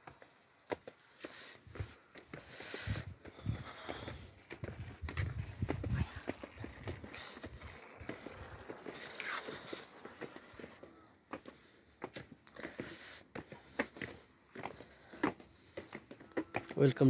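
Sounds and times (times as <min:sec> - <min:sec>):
footsteps on leaves and stone: 0:00.2 - 0:17.0.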